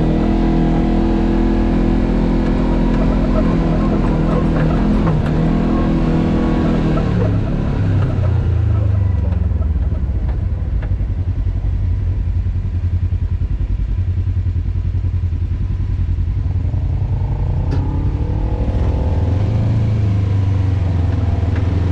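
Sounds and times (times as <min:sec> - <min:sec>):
off-road vehicle engine rumbling: 0:00.0 - 0:21.9.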